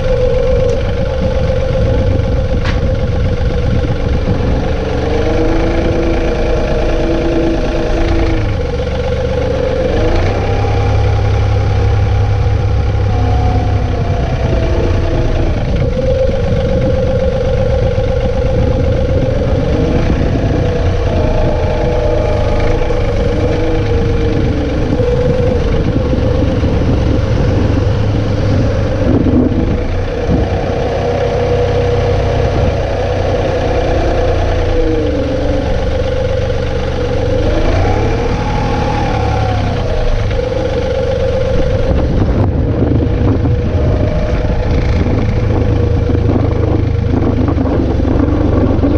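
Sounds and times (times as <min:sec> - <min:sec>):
tractor diesel engine running: 0:00.0 - 0:48.9
whine rising and falling: 0:00.0 - 0:48.9.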